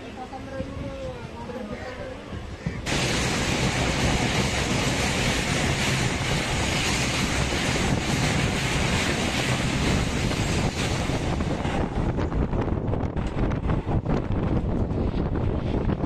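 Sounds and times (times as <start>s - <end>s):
wind buffeting microphone: 0.4s - 16.0s
train wheels rumbling on rail: 2.5s - 16.0s.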